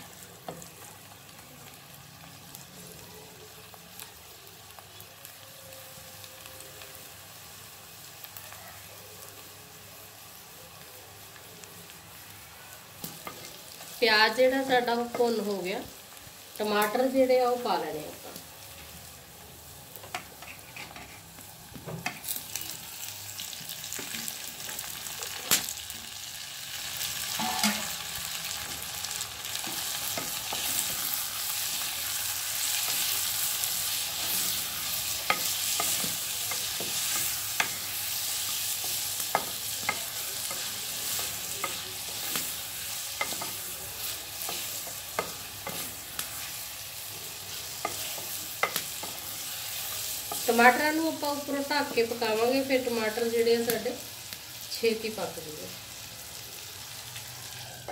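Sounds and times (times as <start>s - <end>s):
tomatoes and onions sizzling: 0.0s - 57.9s.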